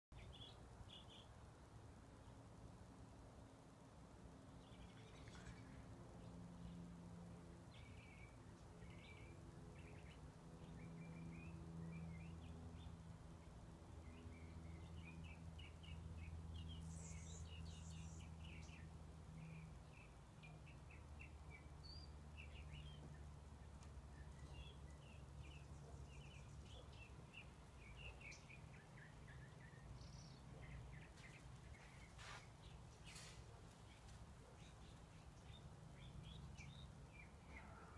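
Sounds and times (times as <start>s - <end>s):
small birds chirping faintly: 0.1s - 37.9s.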